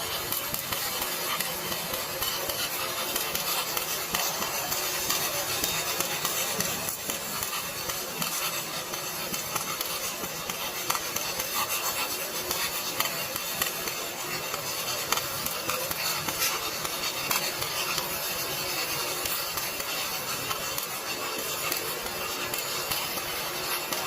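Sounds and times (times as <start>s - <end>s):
welding arc crackling sizzle: 0.0s - 24.0s.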